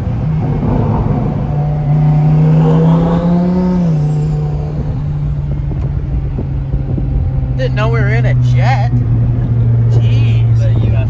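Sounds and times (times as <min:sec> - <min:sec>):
car engine from inside cabin: 0:00.0 - 0:11.0.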